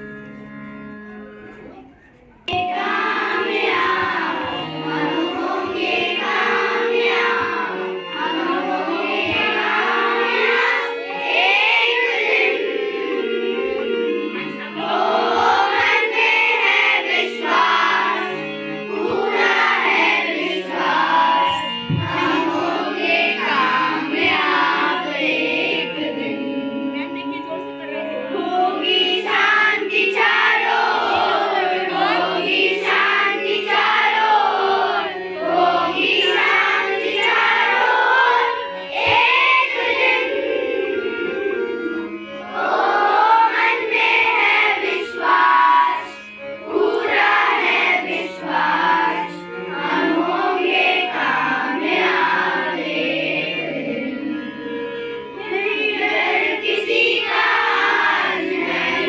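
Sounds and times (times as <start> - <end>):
instrumental accompaniment: 0.0 - 59.0
children singing: 2.5 - 27.3, 28.2 - 59.0.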